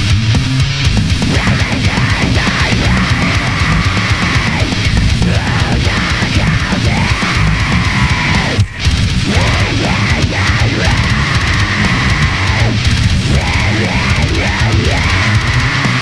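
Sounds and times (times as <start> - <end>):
distorted metal guitars: 0.0 - 16.0
very fast drumming: 0.0 - 16.0.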